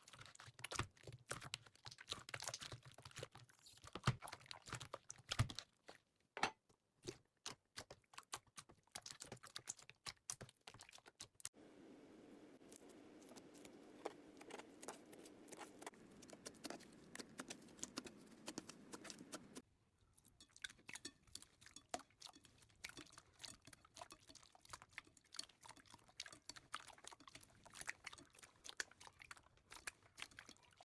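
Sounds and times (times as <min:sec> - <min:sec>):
low squishing of slime: 0:00.0 - 0:06.2, 0:07.0 - 0:30.9.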